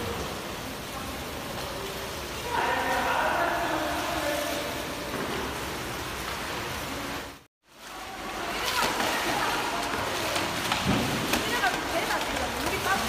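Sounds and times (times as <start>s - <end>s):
broom pushing water splashing: 0.0s - 13.0s
water rushing across tiled floor: 0.0s - 13.0s.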